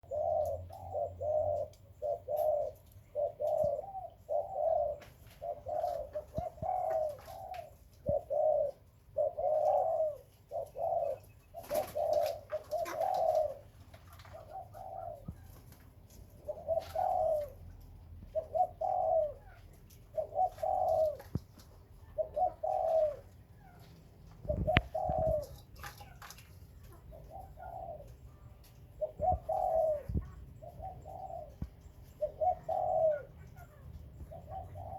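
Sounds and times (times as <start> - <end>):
dove cooing: 0.0 - 34.9.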